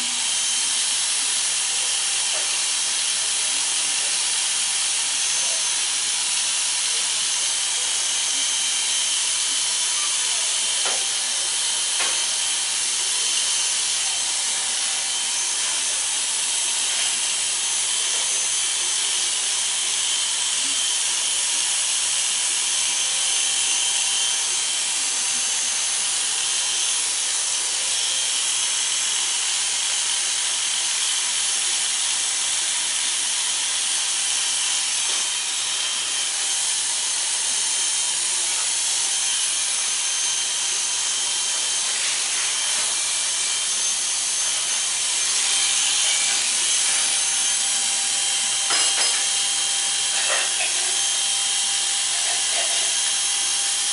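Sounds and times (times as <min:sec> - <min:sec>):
electric hair clippers buzzing: 0:00.0 - 0:53.9.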